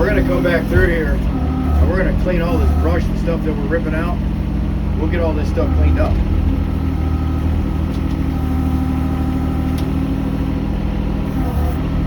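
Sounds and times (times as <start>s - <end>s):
excavator engine running: 0.0s - 12.0s.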